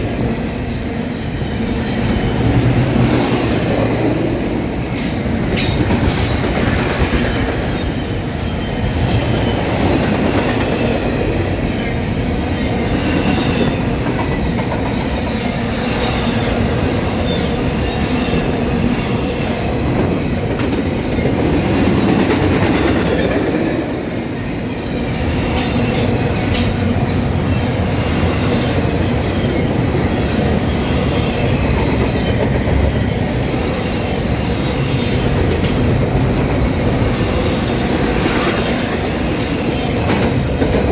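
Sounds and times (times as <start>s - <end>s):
train rumbling past: 0.0s - 40.9s.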